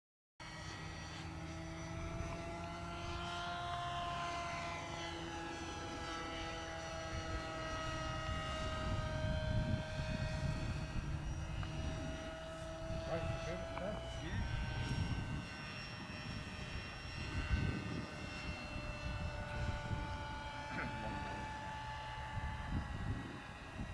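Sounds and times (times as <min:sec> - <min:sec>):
model airplane motor whine: 0:00.4 - 0:23.9.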